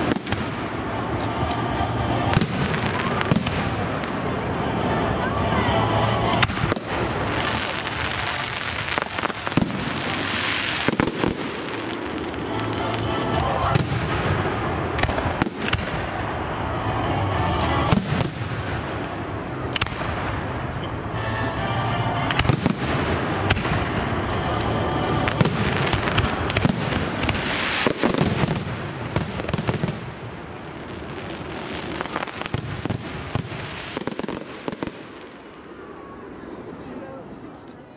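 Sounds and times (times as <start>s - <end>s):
fireworks bursting and crackling: 0.0s - 37.9s.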